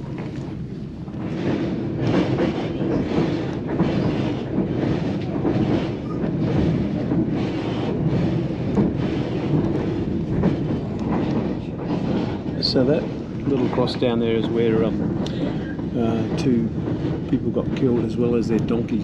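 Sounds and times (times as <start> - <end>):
clickety-clack of rails: 0.0 - 19.0
train wheels rumbling on rails: 0.0 - 19.0.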